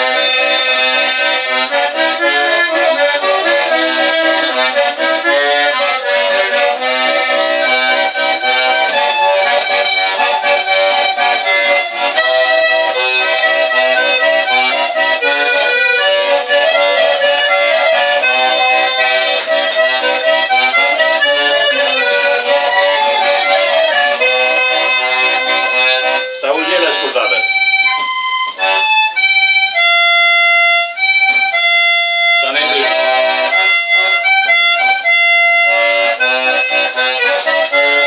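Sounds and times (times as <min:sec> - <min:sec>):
button accordion tune: 0:00.0 - 0:38.0.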